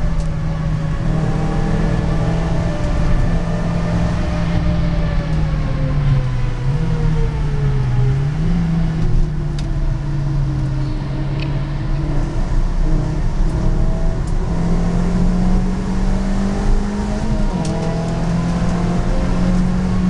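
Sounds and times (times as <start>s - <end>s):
car engine pulling under load: 0.0s - 20.0s
road and tyre noise: 0.0s - 20.0s.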